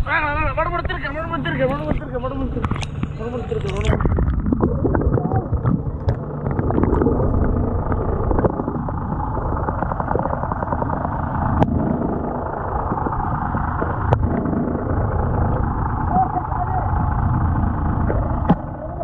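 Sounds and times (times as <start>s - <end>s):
underwater rumble and hiss: 0.0s - 19.0s.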